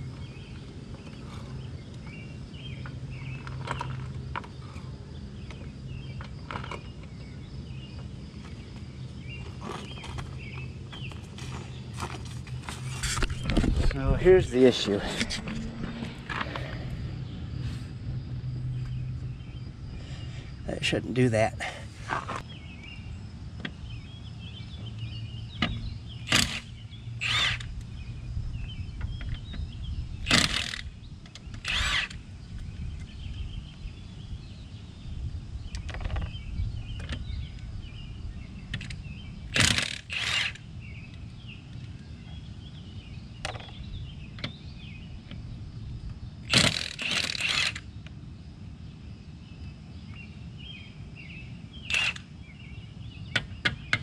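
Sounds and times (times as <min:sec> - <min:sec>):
low outdoor hum: 0:00.0 - 0:54.0.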